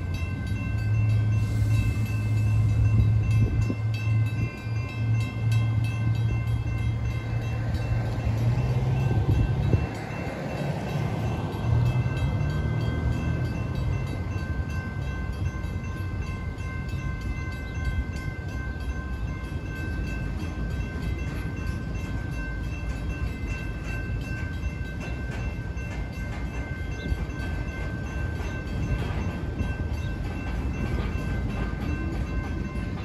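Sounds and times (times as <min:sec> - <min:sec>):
crossing signal bell ringing: 0:00.0 - 0:33.0
train wheels rumbling on rail: 0:00.0 - 0:33.0.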